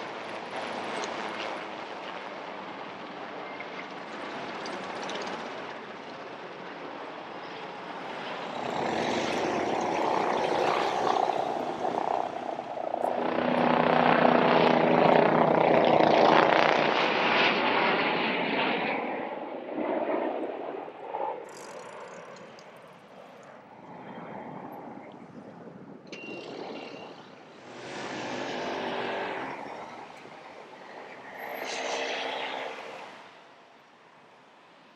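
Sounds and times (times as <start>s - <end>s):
helicopters flying over: 0.0s - 34.9s.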